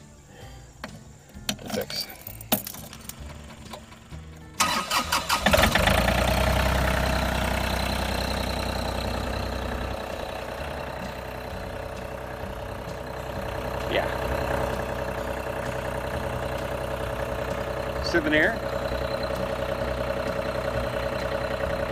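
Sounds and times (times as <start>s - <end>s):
lawn tractor engine idling: 0.0s - 21.9s.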